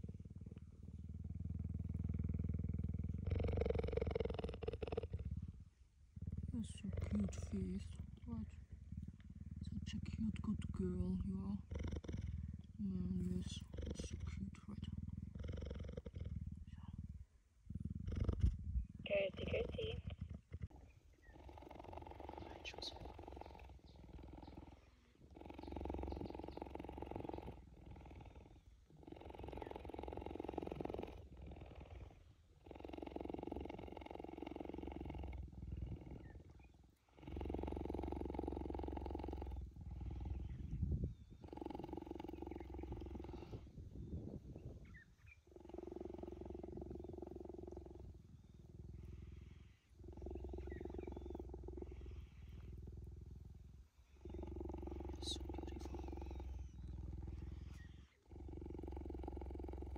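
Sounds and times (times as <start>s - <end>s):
cheetah purring: 0.0s - 59.9s.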